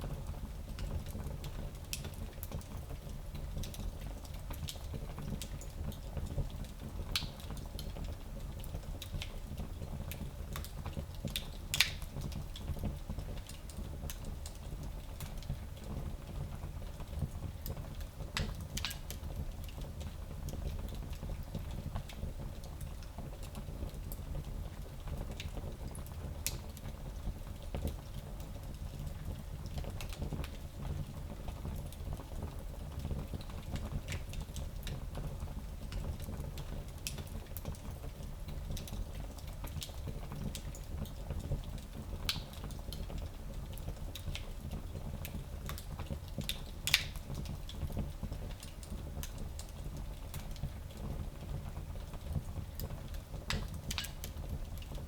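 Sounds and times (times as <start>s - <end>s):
low fire rumble: 0.0s - 55.0s
fire crackling and snapping: 0.2s - 55.0s.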